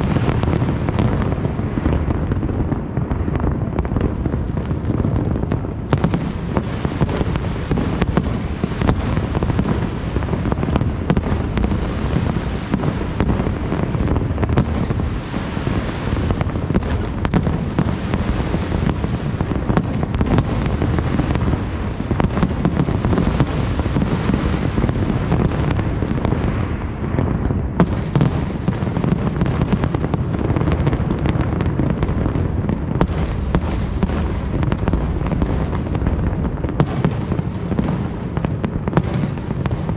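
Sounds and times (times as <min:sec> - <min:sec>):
distant fireworks booms and crackling: 0:00.0 - 0:39.9.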